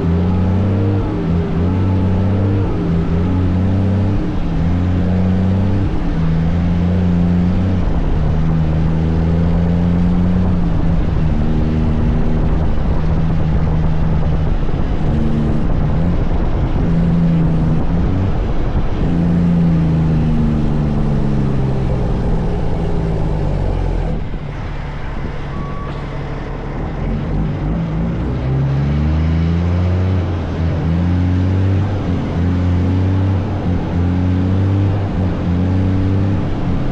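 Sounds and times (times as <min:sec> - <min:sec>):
truck diesel engine revving: 0:00.0 - 0:36.9.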